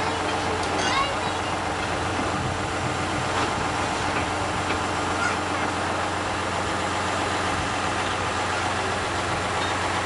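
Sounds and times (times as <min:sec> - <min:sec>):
diesel locomotive engine idling: 0:00.0 - 0:10.0.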